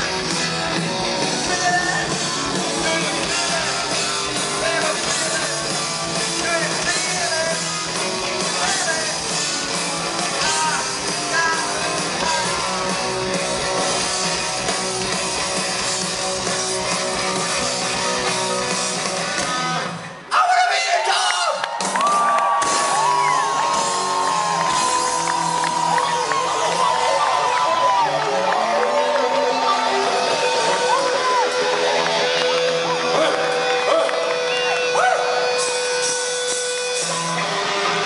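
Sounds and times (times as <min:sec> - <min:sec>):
electric guitar: 0:00.0 - 0:20.3, 0:21.7 - 0:38.0
rock band playing live: 0:00.0 - 0:20.4, 0:21.7 - 0:38.0.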